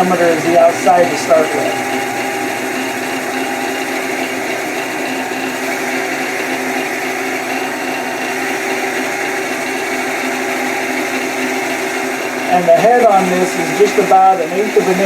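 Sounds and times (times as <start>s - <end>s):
drill bit boring into wood: 0.0s - 15.0s
wood lathe running: 0.0s - 15.0s.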